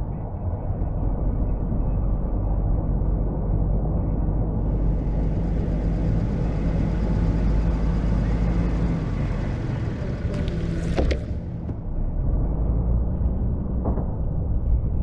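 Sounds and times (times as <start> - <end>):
truck engine running: 0.9 - 14.9.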